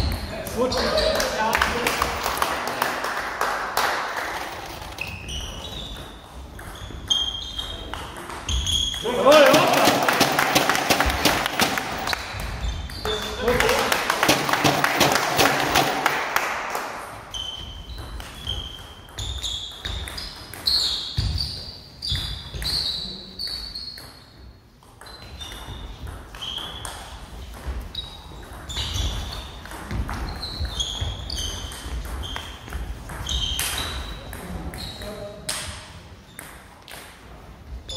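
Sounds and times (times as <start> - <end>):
table tennis ball hitting bats and table: 3.8 - 37.4.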